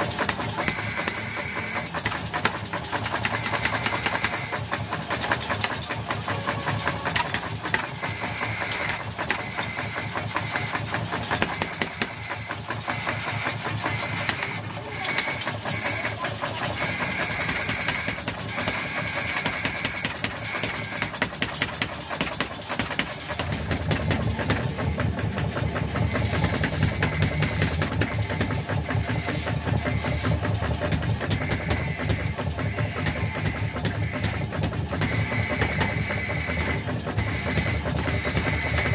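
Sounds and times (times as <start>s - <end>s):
power hammer pounding steel: 0.0s - 38.9s.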